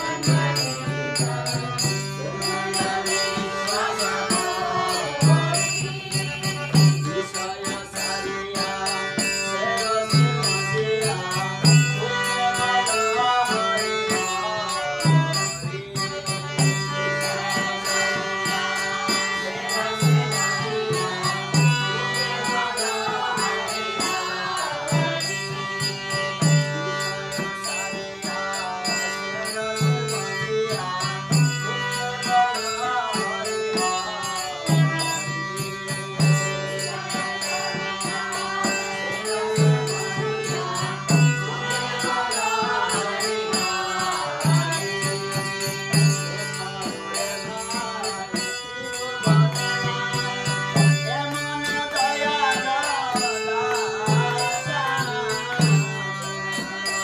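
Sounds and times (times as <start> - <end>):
hand cymbals striking: 0.0 - 57.0
person singing: 0.0 - 57.0.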